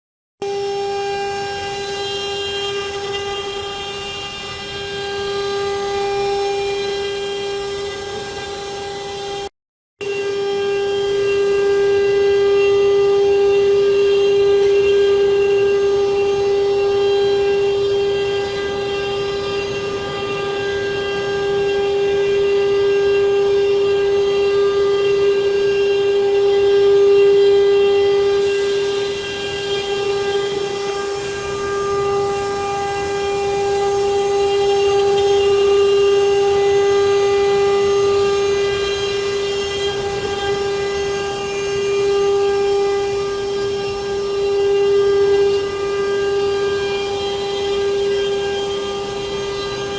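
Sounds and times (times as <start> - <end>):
router spindle whining: 0.4 - 49.9.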